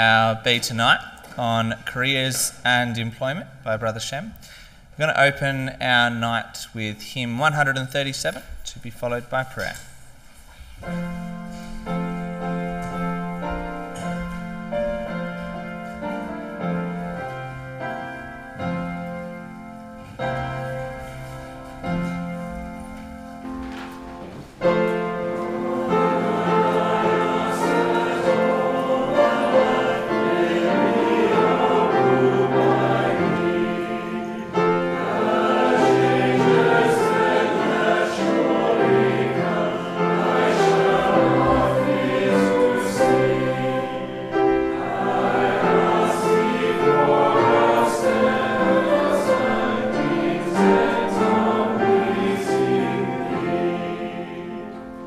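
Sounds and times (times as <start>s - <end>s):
congregation singing a hymn: 0.0s - 3.3s, 10.3s - 55.0s.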